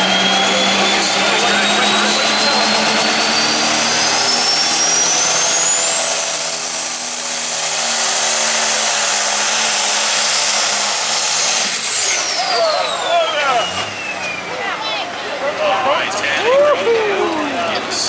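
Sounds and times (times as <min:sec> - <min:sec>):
diesel tractor engine under load: 0:00.0 - 0:18.0
high turbo whine: 0:00.0 - 0:18.0.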